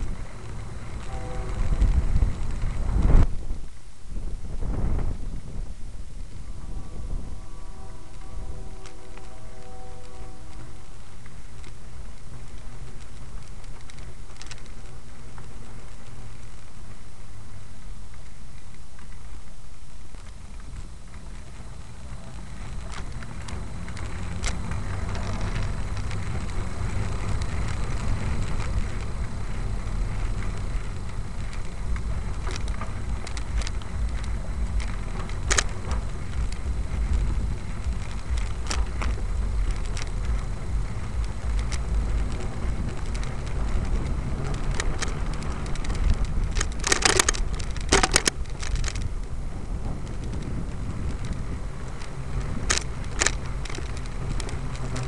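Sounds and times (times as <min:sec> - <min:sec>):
vehicle rumbling: 0:00.0 - 0:55.0.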